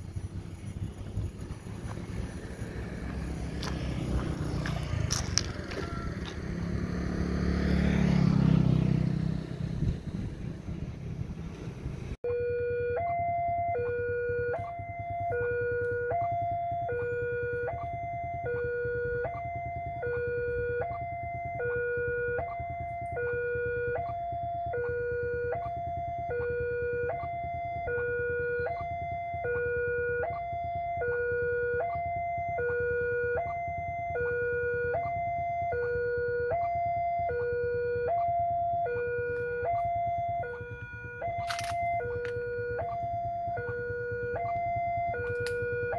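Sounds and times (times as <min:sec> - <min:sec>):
low steady rumble: 0:00.0 - 0:07.2, 0:09.2 - 0:12.2, 0:12.8 - 0:45.9
two-tone crossing alarm: 0:00.0 - 0:10.0, 0:12.2 - 0:45.9.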